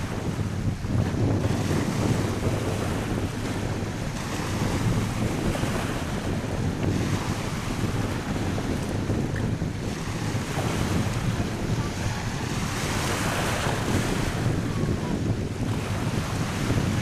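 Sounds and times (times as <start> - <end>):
sea surf washing onto beach: 0.0 - 17.0
strong wind buffeting microphone: 0.0 - 17.0.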